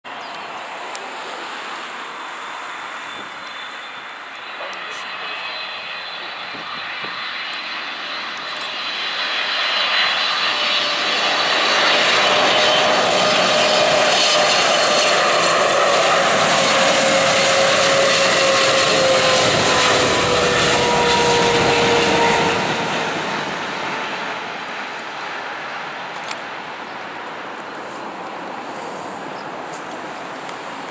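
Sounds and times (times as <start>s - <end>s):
jet aircraft rumble: 0.1s - 30.9s.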